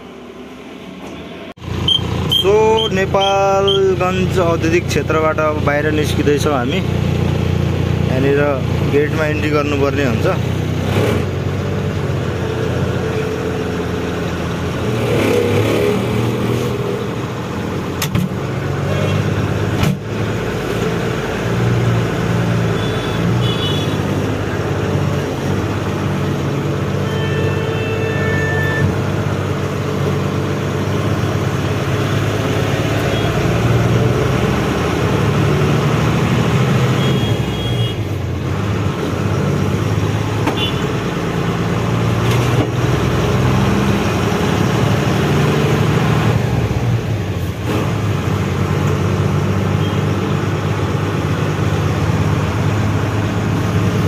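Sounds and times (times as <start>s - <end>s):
truck engine running: 0.0s - 27.0s, 28.6s - 54.0s.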